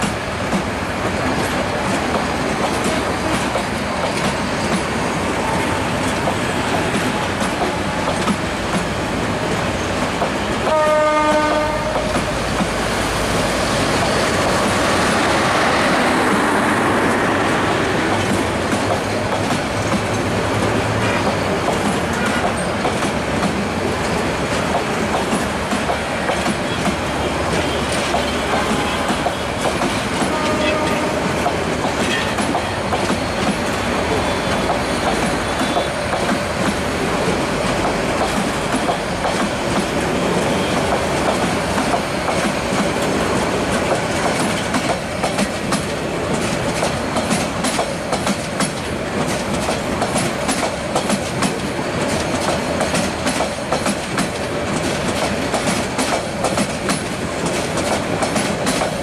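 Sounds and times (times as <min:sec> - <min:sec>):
clickety-clack over rail joints: 0:00.0 - 0:59.0
train wheels rumbling on rails: 0:00.0 - 0:59.0.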